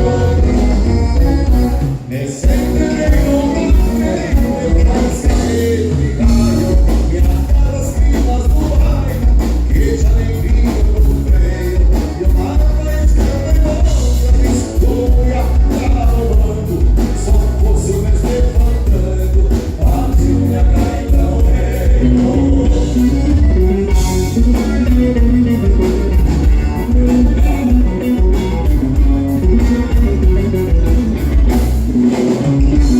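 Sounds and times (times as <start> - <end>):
person singing: 0.0 - 30.9
live band playing: 0.0 - 32.9
prominent bass line: 0.0 - 32.9.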